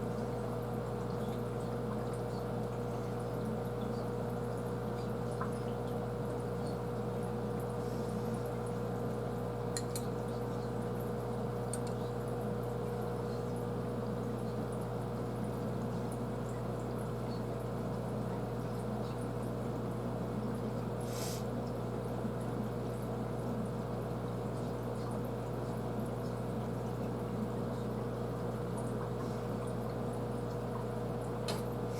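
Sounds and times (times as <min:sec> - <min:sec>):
aquarium filter hum: 0:00.0 - 0:31.9.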